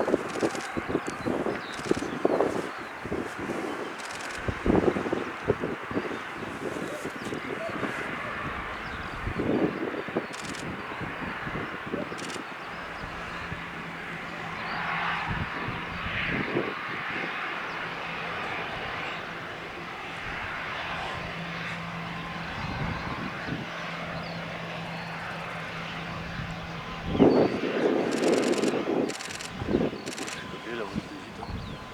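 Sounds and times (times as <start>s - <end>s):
distant jet engines: 0.0s - 31.9s.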